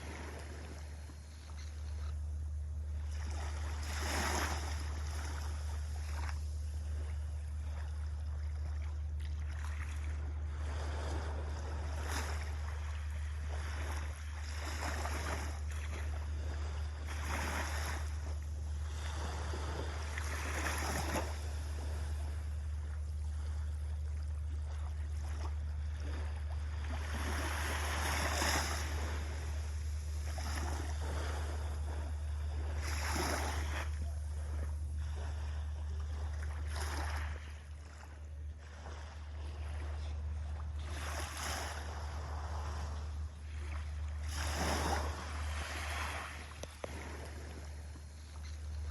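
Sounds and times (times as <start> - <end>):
small waves washing onto beach: 0.0 - 2.2, 2.8 - 48.9
steady low rumble: 0.0 - 48.9.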